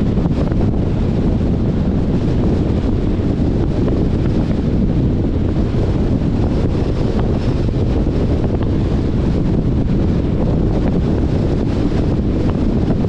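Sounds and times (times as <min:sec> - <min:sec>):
car road noise rumble: 0:00.0 - 0:13.0
wind buffeting microphone: 0:00.0 - 0:13.0.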